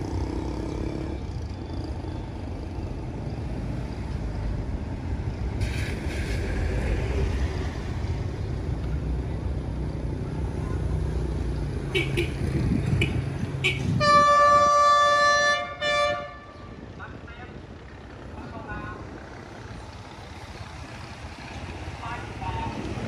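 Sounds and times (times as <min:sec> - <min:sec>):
diesel train rumble: 0:00.0 - 0:23.0.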